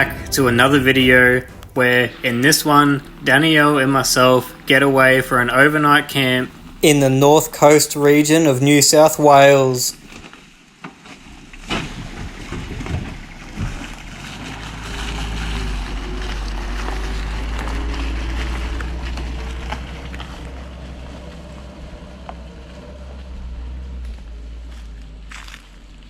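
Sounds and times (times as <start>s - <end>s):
car engine driving: 0.0s - 26.0s.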